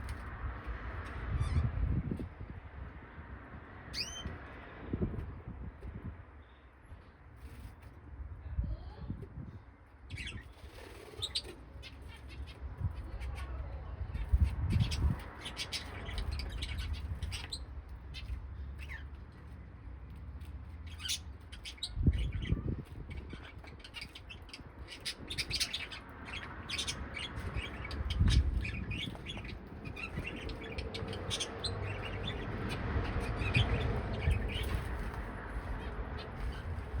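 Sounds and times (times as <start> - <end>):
birds chirping and tweeting: 0.0 - 37.0.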